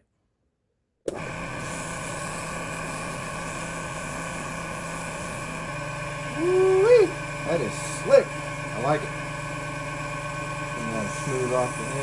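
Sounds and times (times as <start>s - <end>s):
lathe motor humming and whining: 1.1s - 12.0s.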